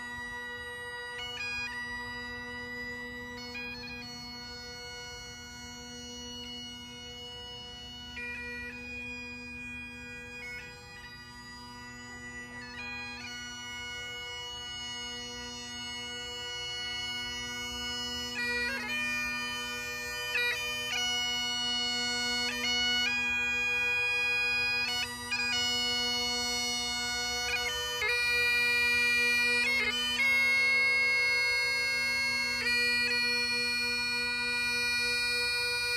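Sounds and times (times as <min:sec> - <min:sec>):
bagpipes playing a tune: 0:00.0 - 0:35.9.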